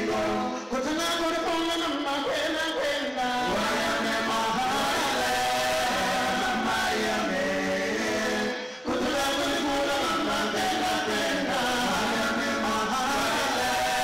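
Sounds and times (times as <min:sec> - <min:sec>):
men singing in harmony: 0:00.0 - 0:00.9, 0:01.8 - 0:14.0.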